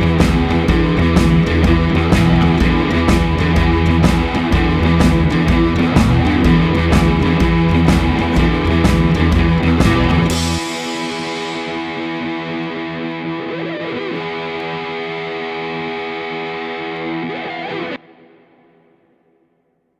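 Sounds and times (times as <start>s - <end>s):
rock music drums: 0.0s - 18.4s
distorted guitar chord: 0.0s - 19.4s.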